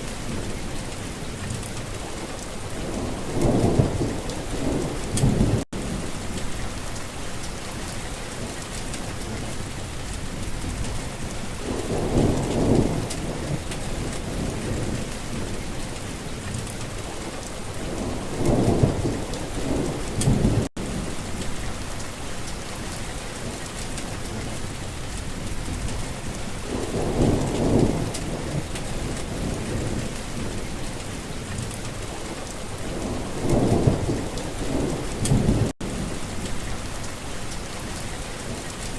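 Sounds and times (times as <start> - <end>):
steady rain: 0.0 - 38.9
low rumbles of thunder: 2.7 - 7.0, 8.4 - 22.0, 23.4 - 37.0.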